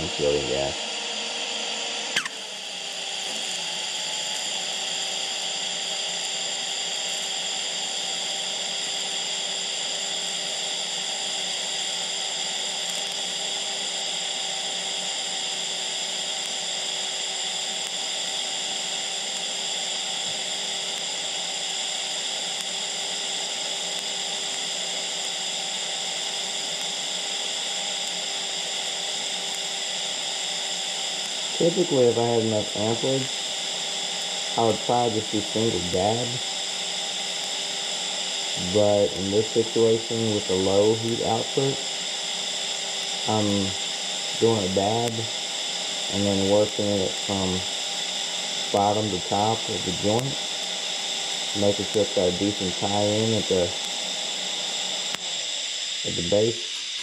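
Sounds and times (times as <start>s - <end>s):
welding arc hissing and humming: 0.0s - 57.0s.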